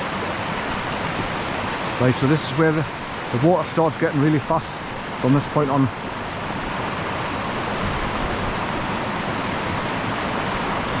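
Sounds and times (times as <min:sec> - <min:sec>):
water cascading between boulders: 0:00.0 - 0:11.0.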